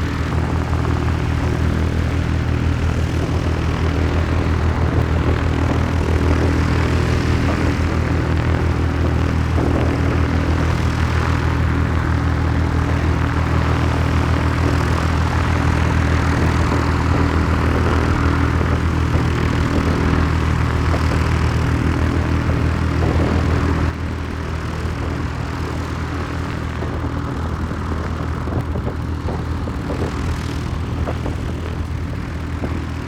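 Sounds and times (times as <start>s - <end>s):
engine droning steadily: 0.0s - 33.0s.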